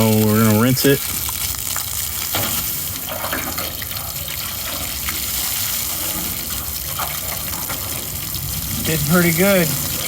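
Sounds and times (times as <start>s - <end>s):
water spraying on metal hull: 0.0s - 10.0s.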